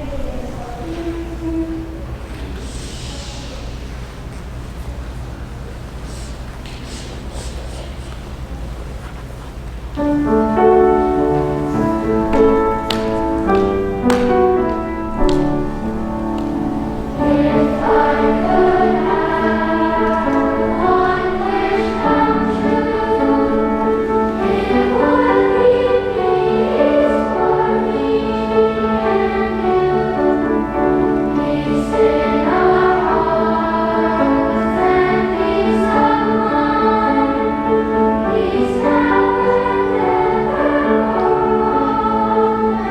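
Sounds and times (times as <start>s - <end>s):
choir singing: 0.0s - 3.9s, 10.0s - 42.9s.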